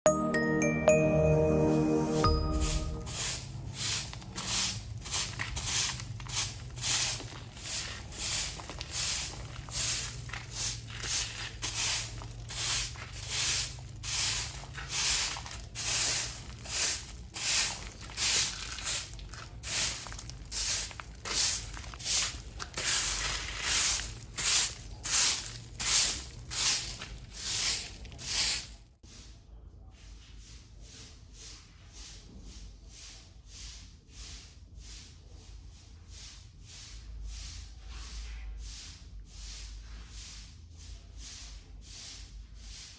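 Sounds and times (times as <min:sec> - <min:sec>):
broom sweeping the ground: 0:01.7 - 0:42.9.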